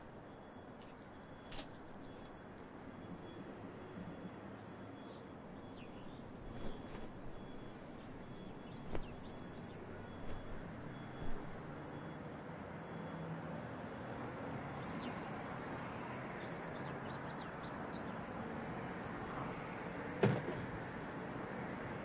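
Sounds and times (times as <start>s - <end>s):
distant city hum: 0.0s - 22.0s.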